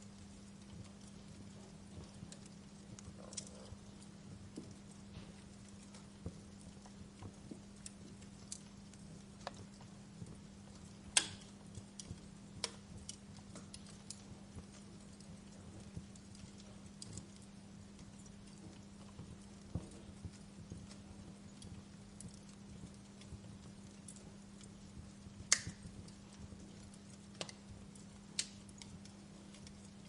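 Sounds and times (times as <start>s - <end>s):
steady low hum: 0.0s - 30.0s
wood fire crackling: 0.0s - 30.0s.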